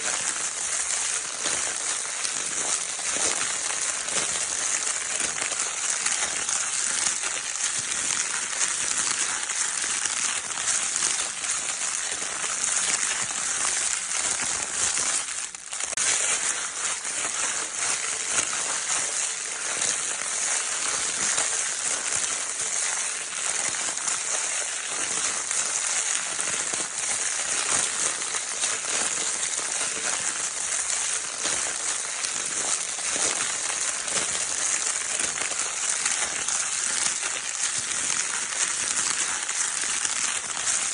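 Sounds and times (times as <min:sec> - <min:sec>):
crinkle paper rustling: 0:00.0 - 0:40.9.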